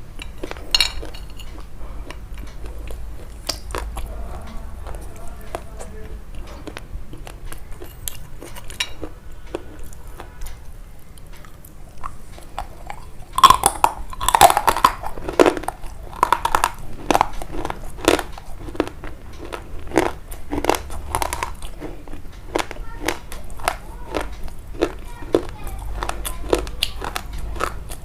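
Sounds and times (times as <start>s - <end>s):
crunching and chewing: 0.0s - 28.0s.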